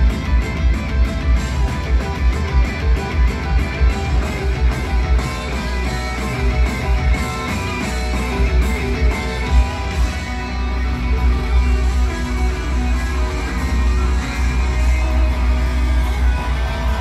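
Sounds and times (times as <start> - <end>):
drums beat: 0.0 - 17.0
electric guitar: 0.0 - 17.0
live rock band: 0.0 - 17.0.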